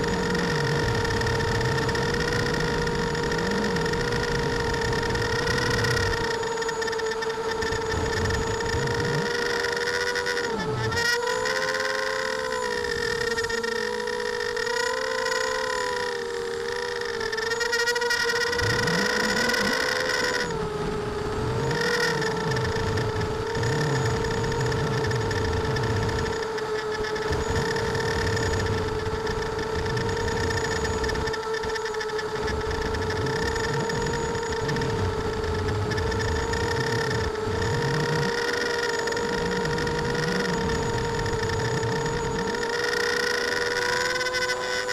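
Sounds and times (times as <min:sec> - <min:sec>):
drone motors whining: 0:00.0 - 0:44.9.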